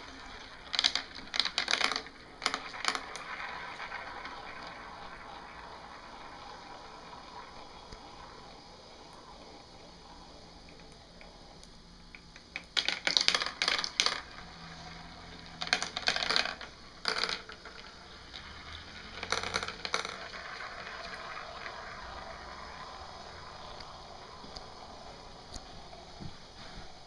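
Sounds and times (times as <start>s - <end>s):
marbles clacking: 0.0s - 26.2s
marbles rolling along track: 0.0s - 27.0s.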